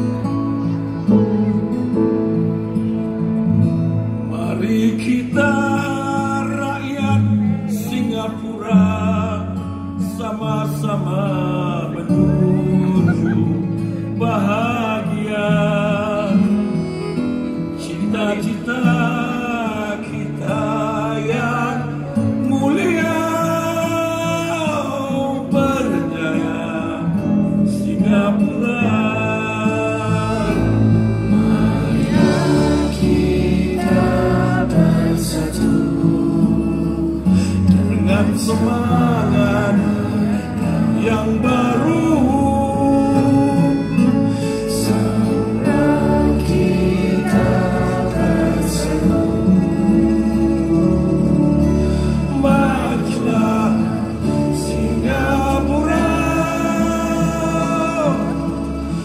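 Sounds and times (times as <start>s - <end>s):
song over stadium loudspeakers: 11.0s - 59.0s.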